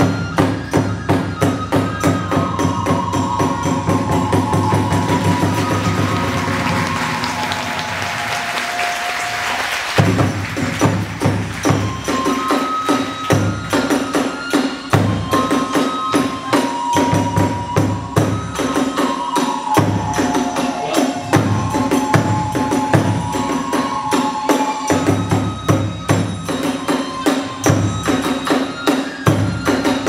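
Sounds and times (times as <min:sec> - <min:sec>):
bamboo flute high notes: 0:00.0 - 0:30.0.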